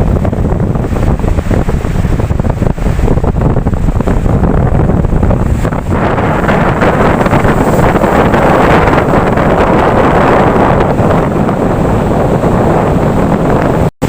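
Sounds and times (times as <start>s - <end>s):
ocean waves washing in: 0.0s - 13.9s
wind rumbling on microphone: 0.0s - 14.0s.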